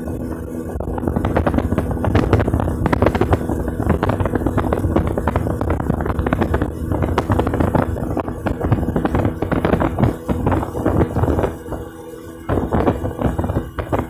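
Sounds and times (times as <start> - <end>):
motorboat engine drone: 0.0 - 14.0
water knocks and slaps: 0.3 - 14.0.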